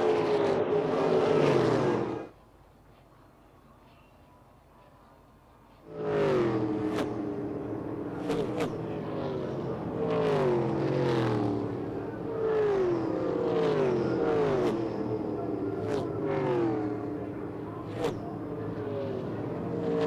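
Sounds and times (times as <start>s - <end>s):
race cars passing by: 0.0s - 2.4s, 5.7s - 20.0s.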